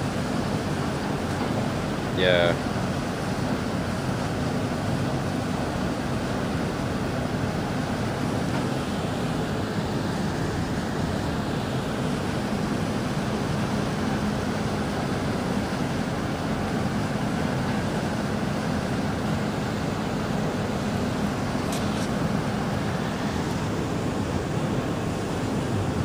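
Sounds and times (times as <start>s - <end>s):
boat engines humming: 0.0s - 26.0s.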